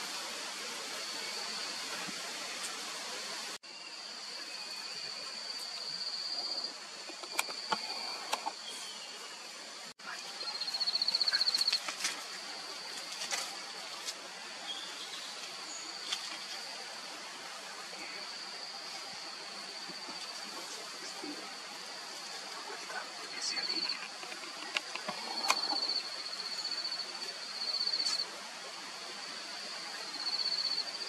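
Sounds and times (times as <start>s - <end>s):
constant hiss: 0.0s - 31.0s
high insect drone: 0.0s - 31.0s.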